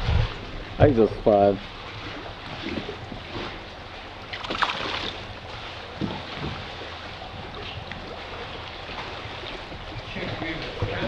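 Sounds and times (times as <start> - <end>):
water lapping around kayak: 0.0 - 11.0.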